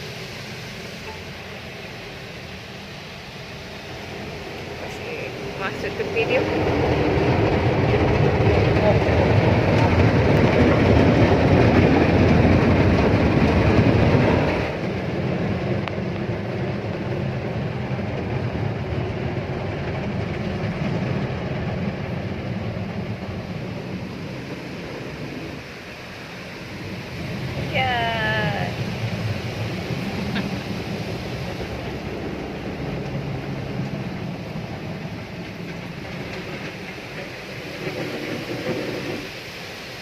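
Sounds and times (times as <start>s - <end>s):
car wash water and machinery: 0.0s - 40.0s.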